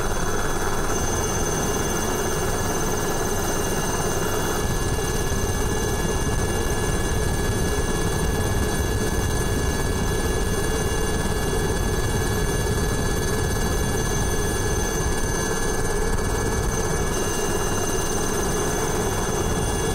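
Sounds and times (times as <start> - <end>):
helicopter rotor and engine: 0.0 - 19.9.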